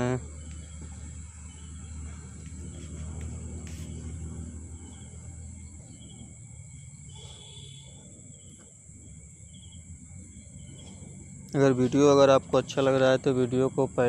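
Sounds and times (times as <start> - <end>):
high whine: 0.0 - 14.0
low hum: 0.0 - 14.0.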